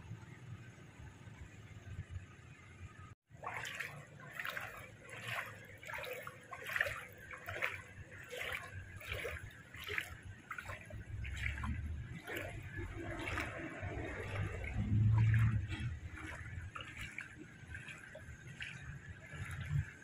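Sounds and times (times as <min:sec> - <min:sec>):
water trickling and splashing: 0:03.2 - 0:20.0.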